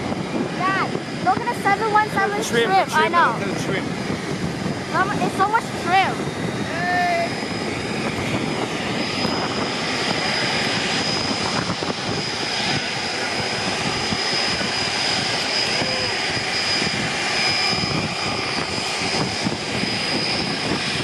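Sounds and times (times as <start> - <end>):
high-pitched engine whine: 0.0 - 21.0
jet engine rushing: 0.0 - 21.0.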